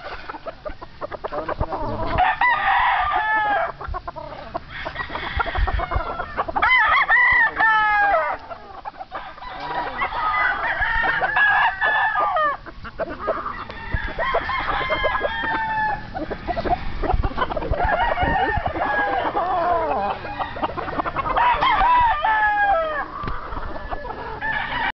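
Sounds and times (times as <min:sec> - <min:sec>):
young roosters crowing: 0:00.0 - 0:25.0.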